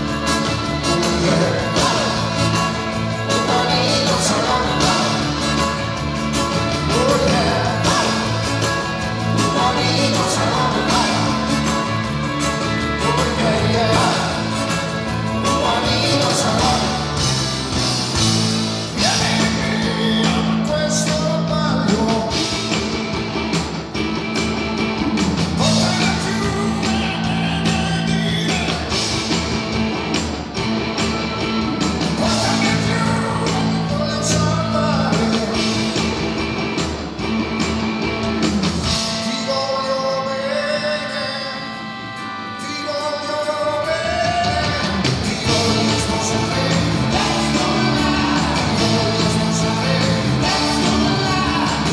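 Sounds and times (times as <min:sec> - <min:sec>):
male lead vocal: 0:00.0 - 0:22.9, 0:25.5 - 0:29.4, 0:32.1 - 0:36.3, 0:38.9 - 0:51.9
live rock band playing: 0:00.0 - 0:51.9.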